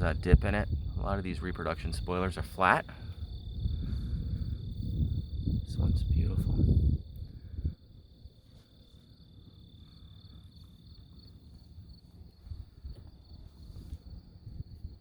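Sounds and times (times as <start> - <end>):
faint low rumble: 0.0 - 15.0
insects chirping: 0.0 - 15.0.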